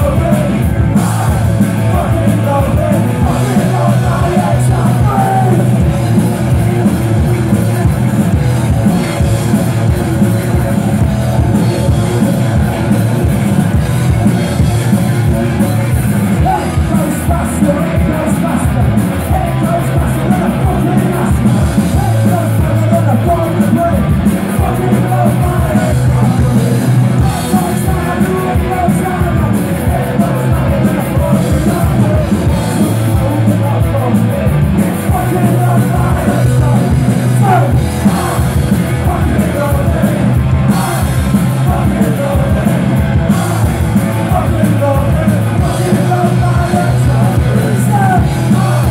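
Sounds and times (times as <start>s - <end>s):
person singing: 0.0s - 10.8s, 15.4s - 48.9s
electric guitars and bass: 0.0s - 48.9s.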